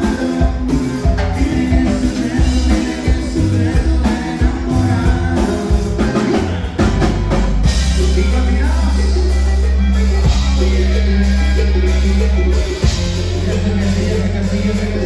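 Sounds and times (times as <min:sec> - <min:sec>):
accordion: 0:00.0 - 0:15.0
drum kit beat: 0:00.0 - 0:15.0
electric bass: 0:00.0 - 0:15.0
guitar: 0:00.0 - 0:15.0.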